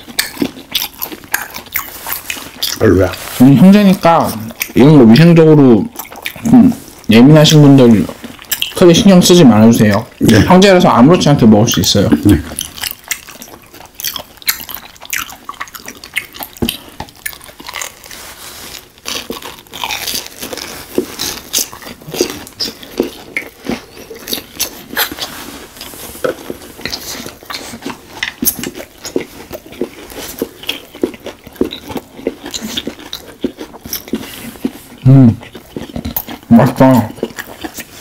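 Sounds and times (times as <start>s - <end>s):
crisp crunches of fried batter: 0.0s - 5.0s, 11.4s - 38.0s
chewing: 0.0s - 38.0s.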